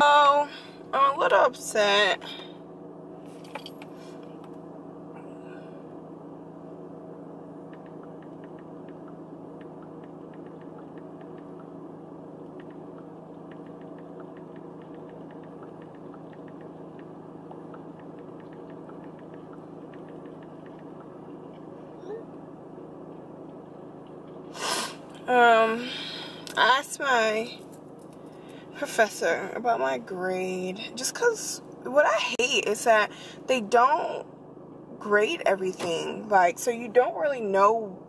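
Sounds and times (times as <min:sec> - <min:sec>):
car engine idling: 0:00.0 - 0:37.7.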